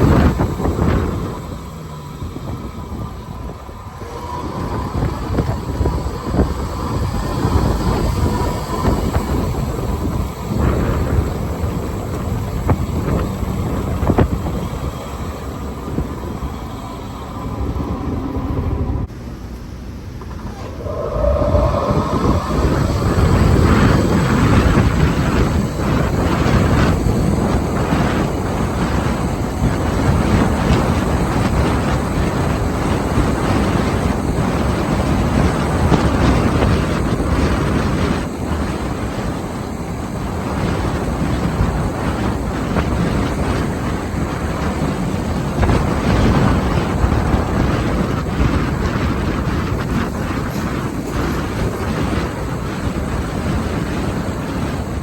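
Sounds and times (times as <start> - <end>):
golf cart rumble: 0.0 - 55.0
wind buffeting microphone: 0.0 - 55.0.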